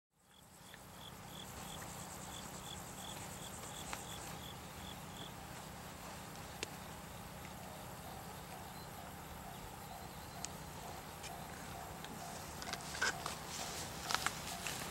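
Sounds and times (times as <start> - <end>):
crickets chirping: 0.2 - 14.9
high insect trill: 0.2 - 14.9.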